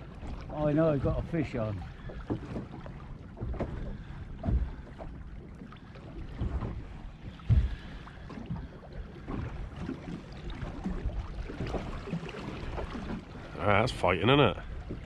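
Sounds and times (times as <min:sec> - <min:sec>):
water slapping boat hull: 0:00.0 - 0:15.0.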